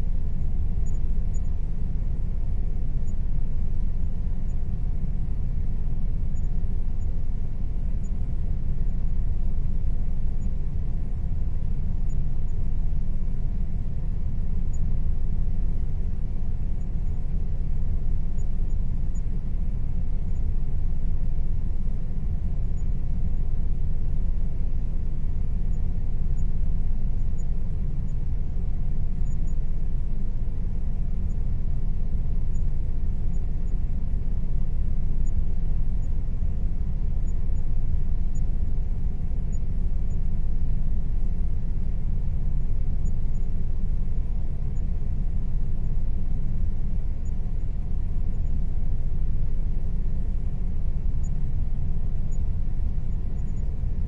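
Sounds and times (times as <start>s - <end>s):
faint steady whine: 0.0s - 54.0s.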